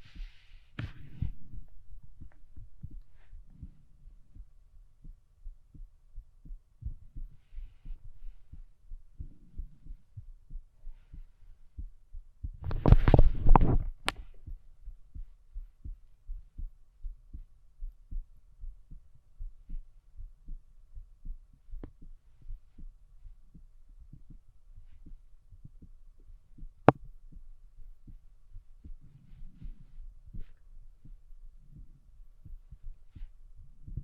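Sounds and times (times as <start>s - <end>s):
heartbeat thumps: 0.0s - 34.0s.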